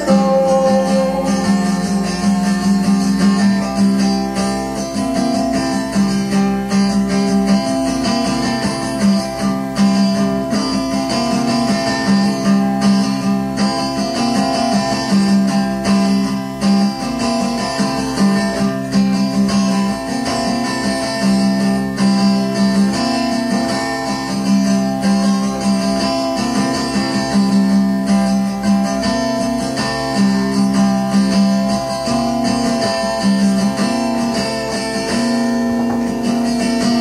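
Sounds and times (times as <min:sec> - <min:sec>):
acoustic guitar music: 0:00.0 - 0:37.0.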